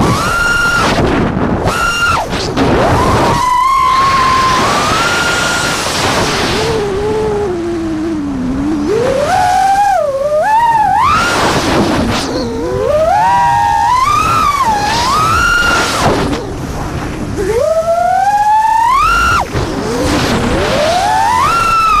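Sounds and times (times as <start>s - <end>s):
quadcopter propellers whining: 0.0s - 22.0s.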